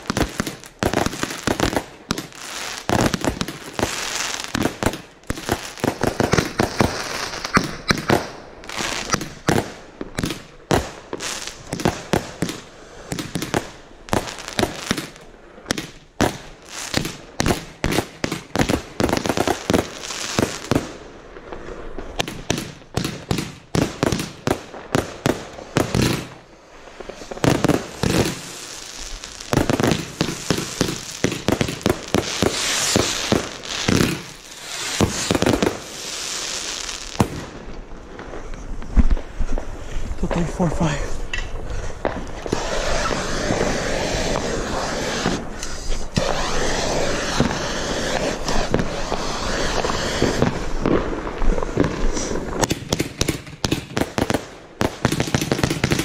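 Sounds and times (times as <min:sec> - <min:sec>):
firework launch thumps and bursts: 0:00.0 - 0:21.0, 0:22.0 - 0:36.0, 0:41.5 - 0:56.0
firework crackle and hiss: 0:00.0 - 0:56.0.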